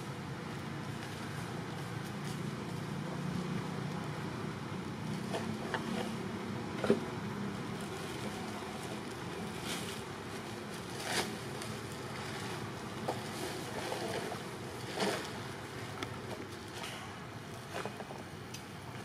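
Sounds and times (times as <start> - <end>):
low outdoor background rumble: 0.0 - 19.0.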